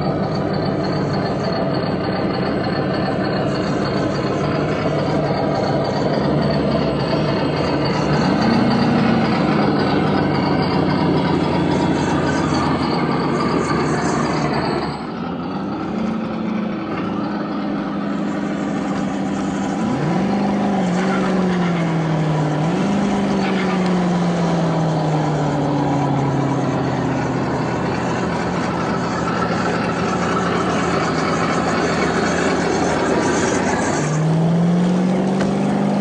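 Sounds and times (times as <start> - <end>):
electric motors whining: 0.0 - 36.0.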